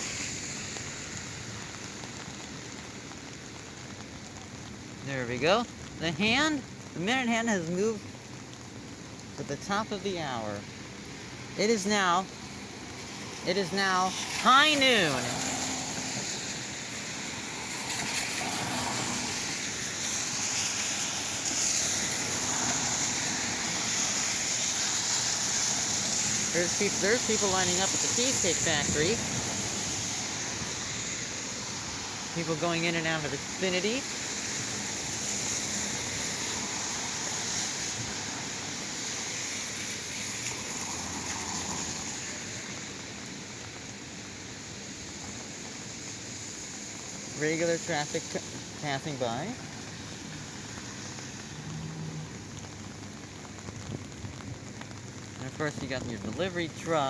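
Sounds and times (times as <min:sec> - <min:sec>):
heavy rain hiss: 0:00.0 - 0:57.0
traffic on wet pavement: 0:00.0 - 0:57.0.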